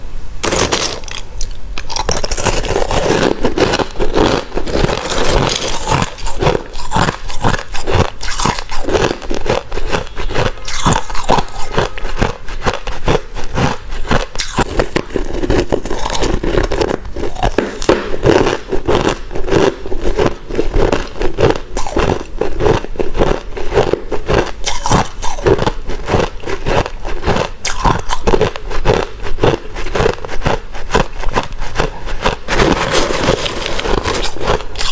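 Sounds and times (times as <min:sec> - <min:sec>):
ice crunching while chewed: 0:00.4 - 0:34.9.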